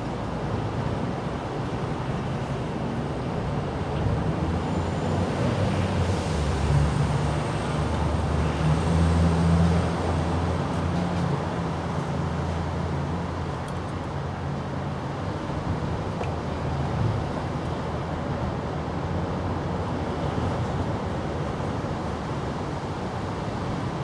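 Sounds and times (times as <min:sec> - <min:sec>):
road traffic engine drone: 0:00.0 - 0:24.0.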